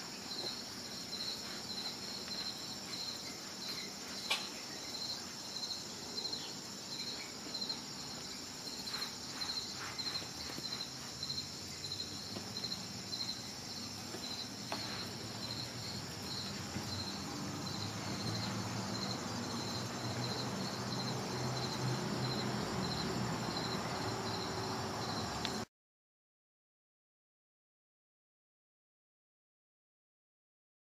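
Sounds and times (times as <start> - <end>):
continuous insect hiss: 0.0 - 25.7
crickets chirping: 0.0 - 25.7.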